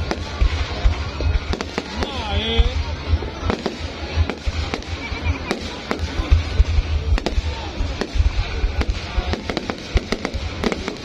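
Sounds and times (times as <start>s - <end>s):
fireworks cracking and banging: 0.0s - 11.0s.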